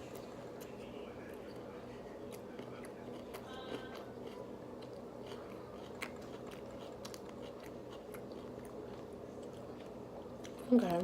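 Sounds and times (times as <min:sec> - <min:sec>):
chewing and crunching food: 0:00.0 - 0:11.0
steady low hum: 0:00.0 - 0:11.0.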